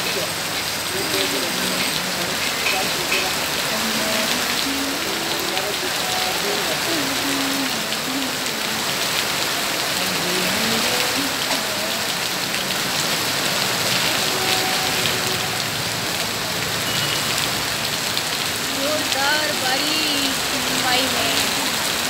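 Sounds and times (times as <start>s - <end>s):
heavy rain on a street: 0.0s - 22.0s.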